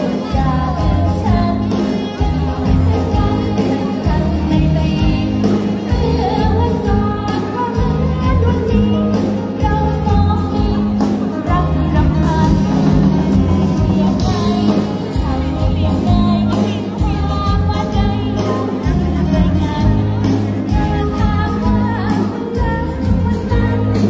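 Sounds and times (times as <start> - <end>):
loud music with singing: 0.0 - 24.0.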